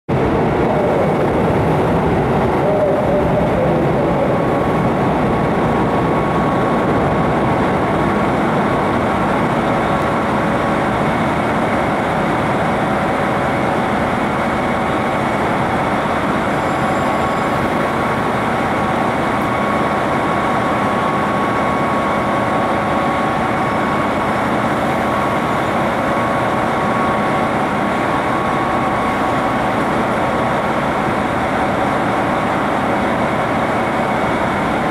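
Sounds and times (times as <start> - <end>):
trains idling rumble: 0.1 - 34.9.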